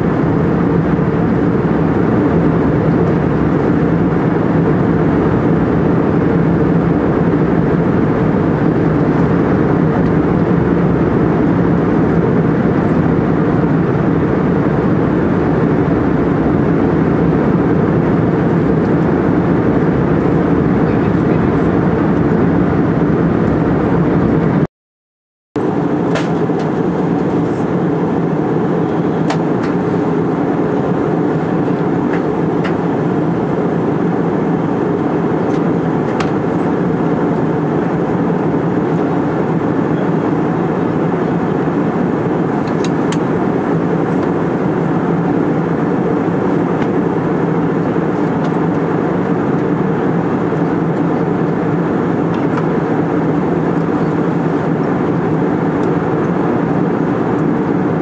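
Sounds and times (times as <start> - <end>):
airliner cabin drone: 0.0 - 24.7, 25.6 - 58.0.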